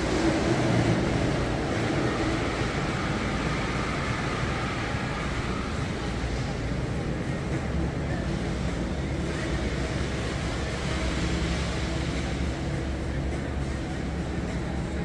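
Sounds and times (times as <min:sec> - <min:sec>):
crowd: 0:00.0 - 0:15.0
traffic rumble: 0:00.0 - 0:15.0.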